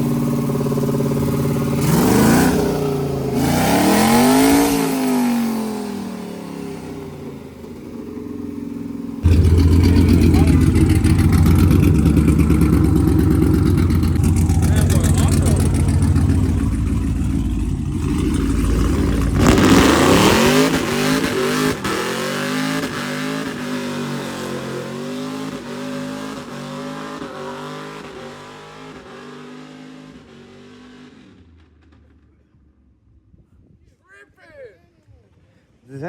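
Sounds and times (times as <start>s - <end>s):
car engine accelerating hard: 0.0s - 32.2s.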